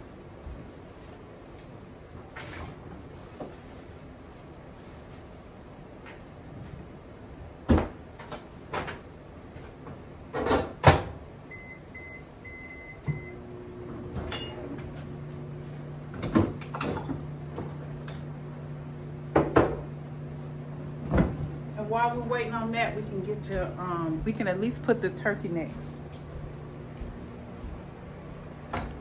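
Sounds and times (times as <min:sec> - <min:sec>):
microwave oven humming: 0:00.0 - 0:29.0.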